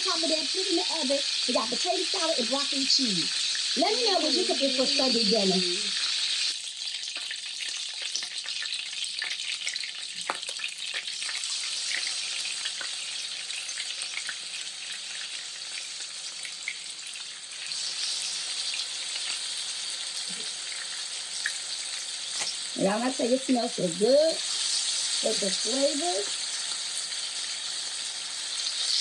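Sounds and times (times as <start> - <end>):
chicken sizzling in oil: 0.0 - 29.0
oil crackling and popping: 0.0 - 29.0.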